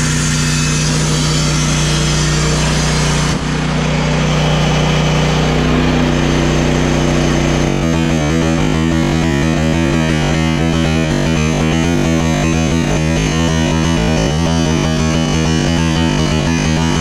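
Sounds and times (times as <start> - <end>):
rhythmic bass line: 0.0 - 17.0.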